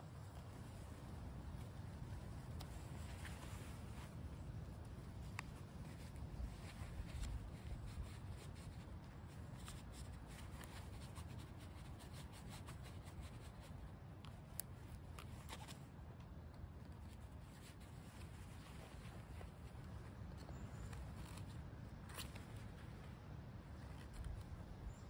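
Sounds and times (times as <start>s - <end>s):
knife shaving wood: 1.8s - 23.0s.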